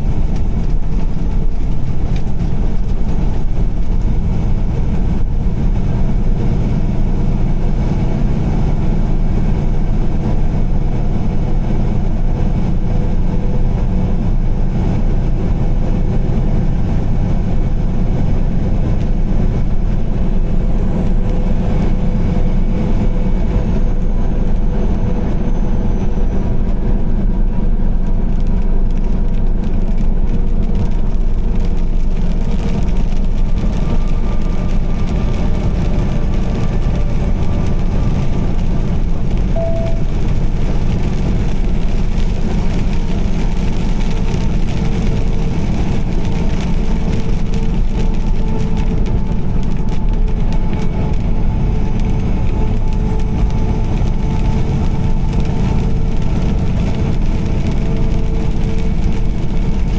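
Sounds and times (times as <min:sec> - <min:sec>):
car driving at highway speed: 0:00.0 - 0:59.9.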